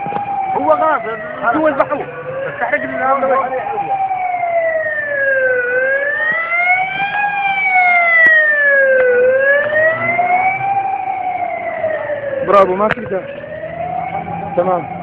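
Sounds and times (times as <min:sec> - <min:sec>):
ambulance siren wailing: 0:00.0 - 0:15.0.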